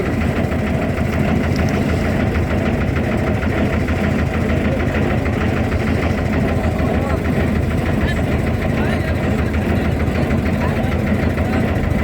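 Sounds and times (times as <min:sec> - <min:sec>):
boat engine knocking: 0:00.0 - 0:12.0.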